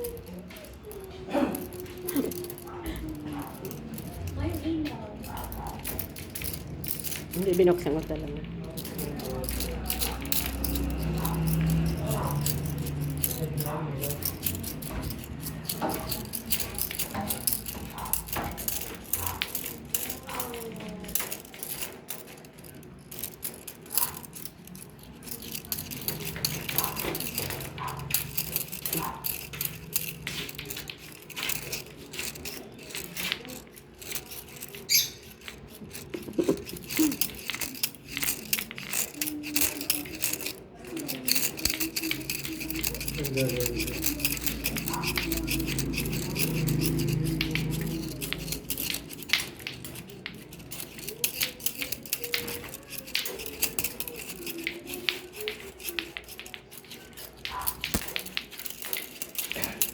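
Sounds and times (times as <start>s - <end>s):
clacker balls clicking: 0.0s - 59.9s
faint voices: 0.0s - 59.9s.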